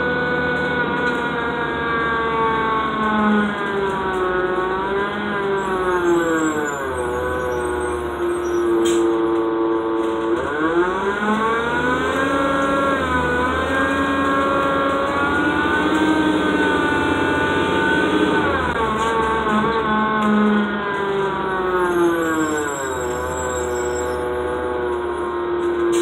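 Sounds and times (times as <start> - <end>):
bus diesel engine: 0.0 - 26.0.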